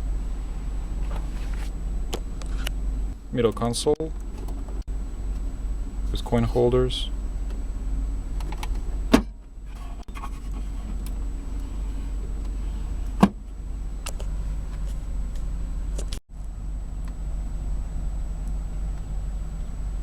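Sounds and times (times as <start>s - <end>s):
idling engine hum inside cabin: 0.0s - 20.0s.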